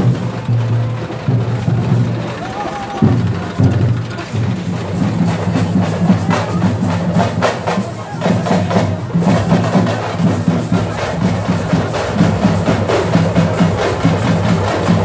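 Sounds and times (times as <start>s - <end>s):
music with loud drumming: 0.0s - 15.0s.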